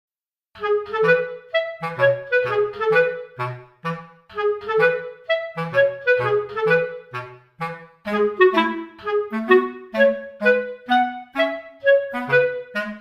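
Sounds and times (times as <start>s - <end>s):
bouncy background music: 0.6s - 13.0s.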